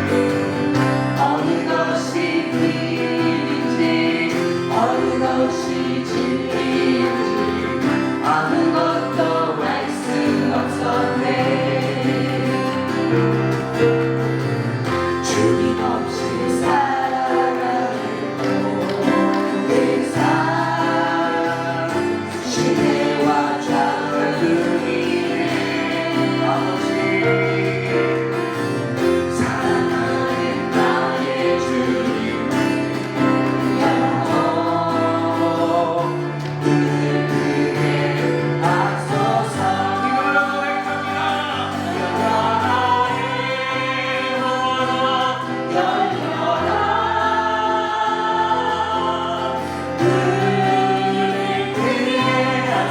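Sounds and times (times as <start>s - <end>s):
instrumental accompaniment: 0.0s - 52.9s
voices singing praise song: 0.0s - 52.9s.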